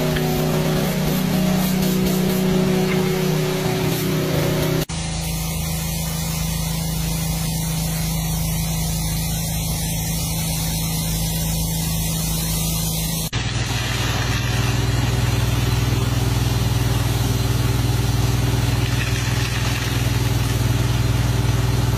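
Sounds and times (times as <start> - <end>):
high-pressure water spray hiss: 0.0 - 21.9
pressure washer jet through pipe: 0.0 - 21.9
pressure washer motor hum: 0.0 - 21.9.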